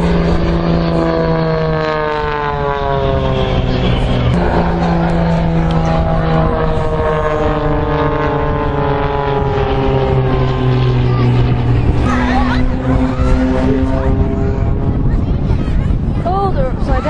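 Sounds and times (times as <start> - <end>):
jet engine whine: 0.0 - 17.0
low drone: 0.0 - 17.0.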